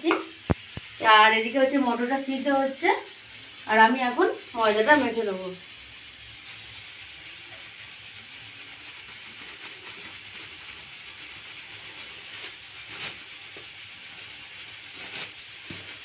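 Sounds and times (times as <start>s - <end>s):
faint hiss: 0.0s - 16.0s
flour pouring into steel bowl: 0.0s - 16.0s.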